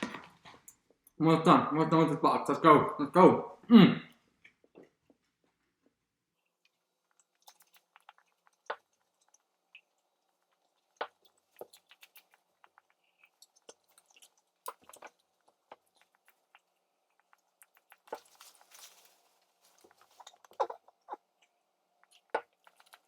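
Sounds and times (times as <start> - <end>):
man chewing food: 4.2 - 23.0.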